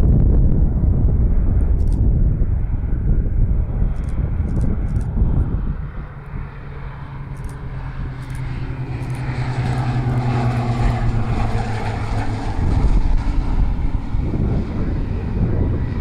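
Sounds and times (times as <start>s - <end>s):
propeller plane drone: 0.0s - 16.0s
rough low rumble: 0.0s - 16.0s.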